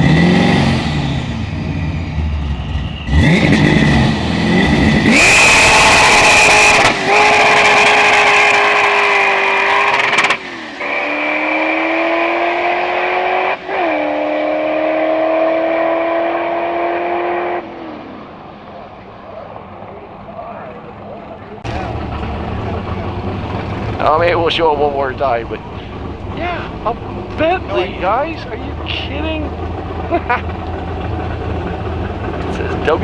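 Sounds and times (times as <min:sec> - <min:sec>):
drag car engine at full throttle: 0:00.0 - 0:33.0.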